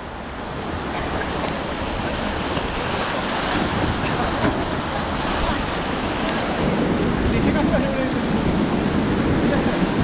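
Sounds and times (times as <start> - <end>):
whitewater rushing: 0.0 - 10.0
wind buffeting microphone: 0.0 - 10.0.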